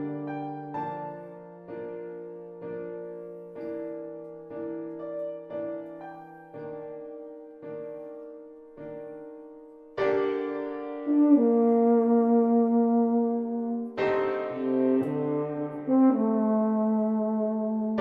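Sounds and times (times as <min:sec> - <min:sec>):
soft piano chords: 0:00.0 - 0:18.0.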